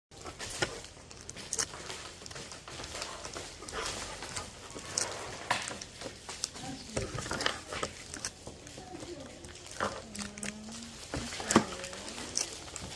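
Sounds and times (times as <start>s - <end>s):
plastic markers clicking and rattling: 0.3s - 12.9s.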